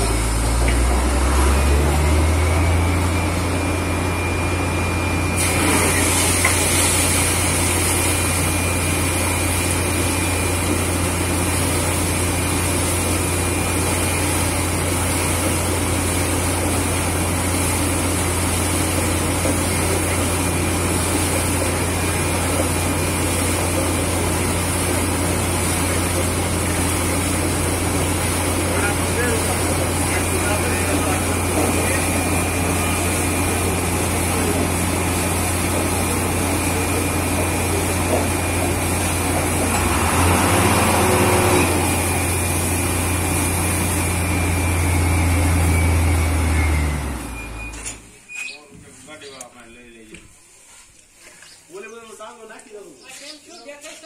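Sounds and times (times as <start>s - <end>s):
deep engine drone: 0.0s - 47.8s.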